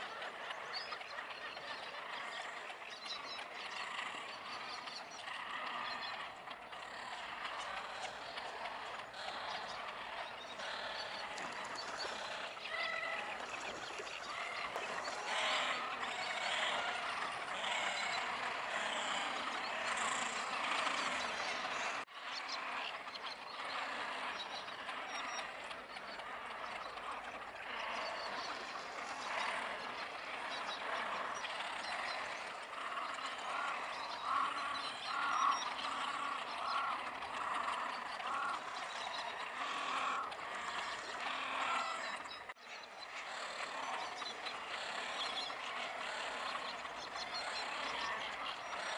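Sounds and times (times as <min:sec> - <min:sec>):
chorus of wetland animals calling: 0:00.0 - 0:48.9.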